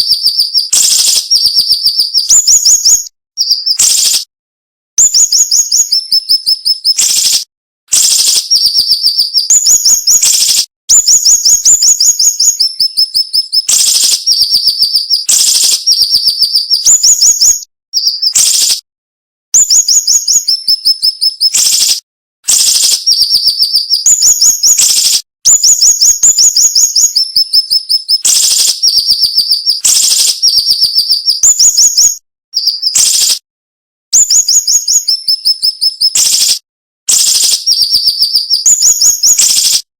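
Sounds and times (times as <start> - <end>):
bird singing high-pitched phrases: 0.0 - 4.3, 5.0 - 18.8, 19.6 - 33.4, 34.2 - 39.9.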